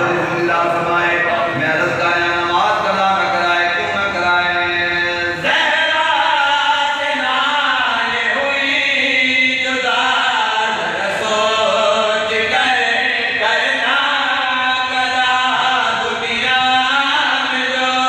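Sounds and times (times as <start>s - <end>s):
men chanting into a microphone: 0.0s - 18.0s.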